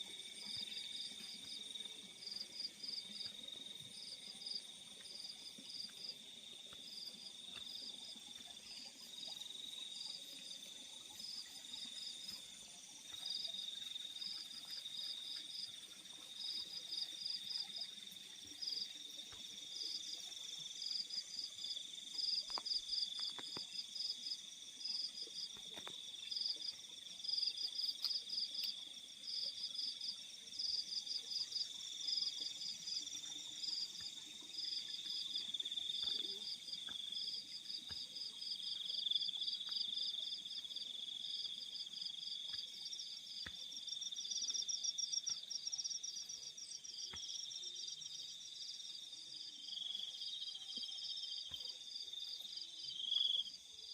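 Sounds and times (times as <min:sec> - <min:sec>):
cricket steady trill: 0:00.0 - 0:53.9
high-pitched cricket chirps: 0:00.0 - 0:53.9.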